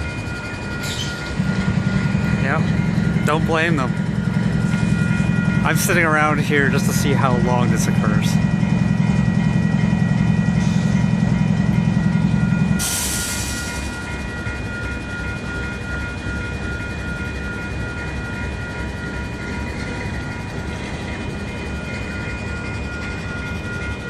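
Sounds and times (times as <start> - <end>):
level-crossing warning bell: 0.0 - 24.0.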